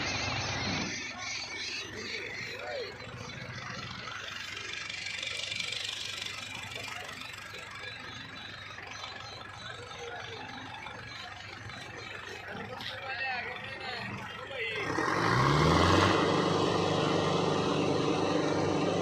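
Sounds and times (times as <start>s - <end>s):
faint voices: 0.0s - 19.0s
tractor diesel engine running: 0.0s - 19.0s.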